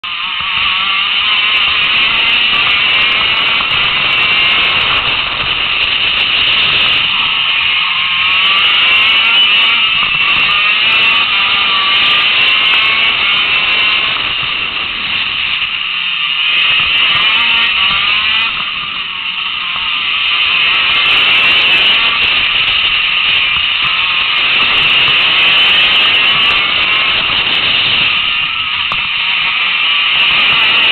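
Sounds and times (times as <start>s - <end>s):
kart engine revving high: 0.0s - 30.9s.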